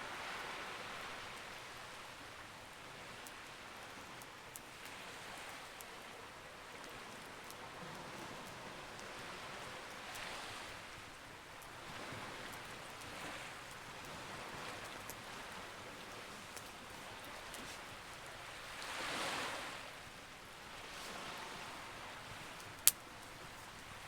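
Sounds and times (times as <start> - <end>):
campfire crackling: 0.2 - 19.1, 20.4 - 24.0.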